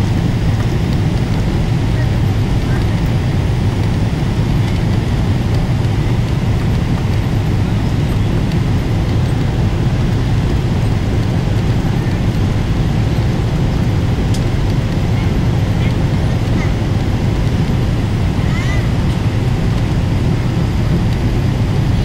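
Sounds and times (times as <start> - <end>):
airflow noise: 0.0 - 22.0
airplane cabin engine rumble: 0.0 - 22.0.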